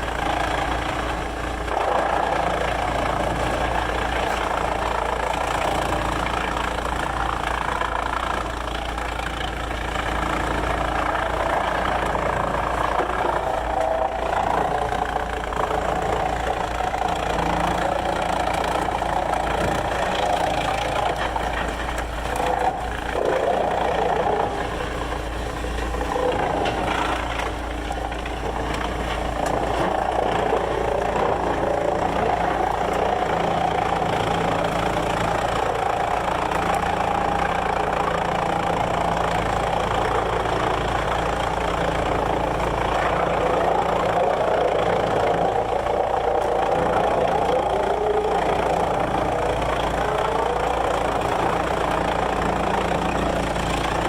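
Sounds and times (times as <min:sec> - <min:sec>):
sawmill engine idling: 0:00.0 - 0:54.0.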